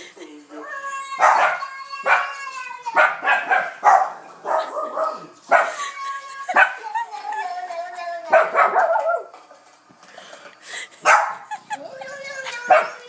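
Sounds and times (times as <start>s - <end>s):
dogs barking and whining: 0.5s - 9.5s, 10.7s - 13.0s.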